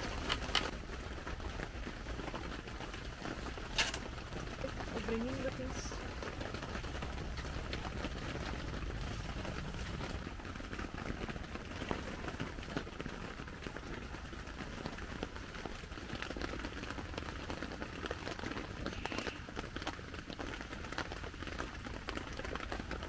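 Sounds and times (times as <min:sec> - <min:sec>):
heavy rain on a tent: 0:00.0 - 0:23.0
sharp raindrop taps: 0:00.0 - 0:23.0.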